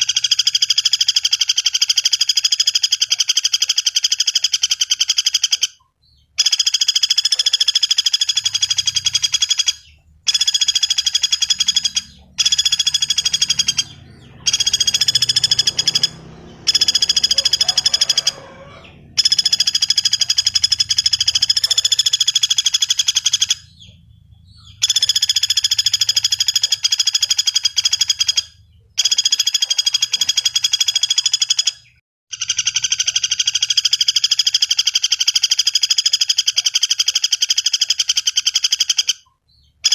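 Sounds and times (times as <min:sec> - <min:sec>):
woodpecker high trills: 0:00.0 - 0:39.9.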